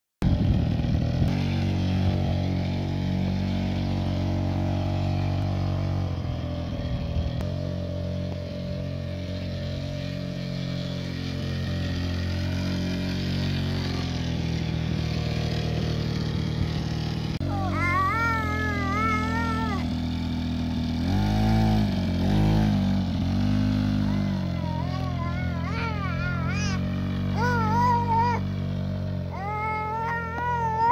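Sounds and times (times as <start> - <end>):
small motorbike engine running: 0.2 - 30.9.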